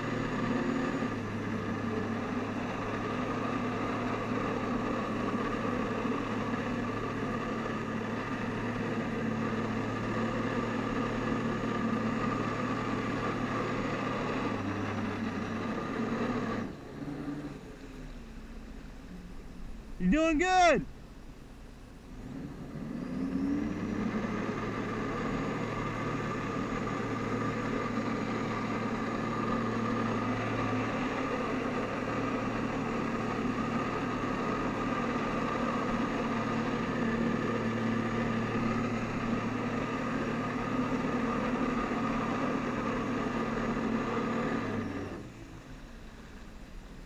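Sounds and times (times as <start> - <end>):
jet ski engine revving: 0.0 - 19.4, 22.1 - 46.0.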